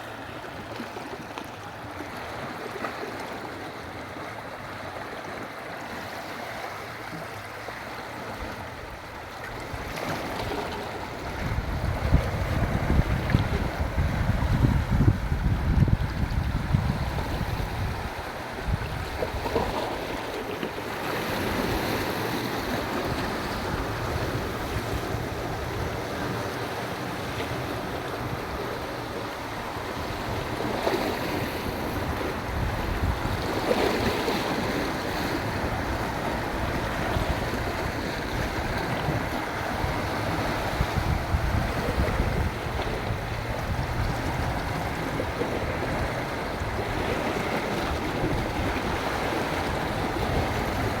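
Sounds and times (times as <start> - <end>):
sea waves washing on shore: 0.0 - 51.0
wind rumbling on microphone: 8.7 - 20.4, 21.4 - 51.0.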